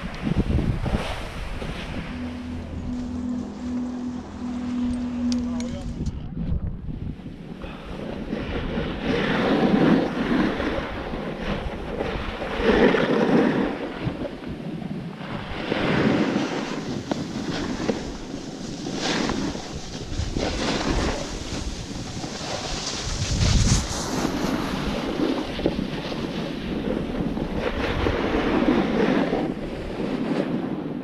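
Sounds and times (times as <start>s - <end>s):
snowboard edge scraping snow: 0.0s - 4.1s, 7.9s - 30.9s
wind buffeting microphone: 0.0s - 31.0s.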